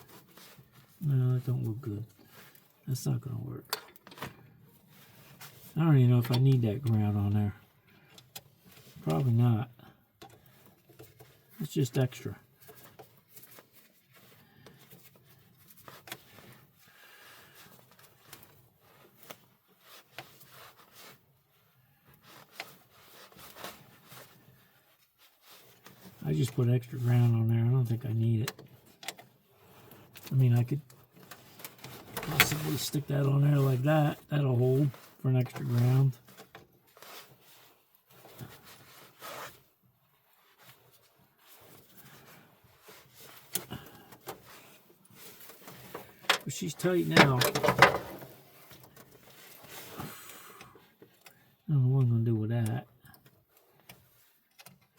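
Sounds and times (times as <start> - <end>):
small clicks and rubbing: 3.6 - 9.4, 10.1 - 54.9.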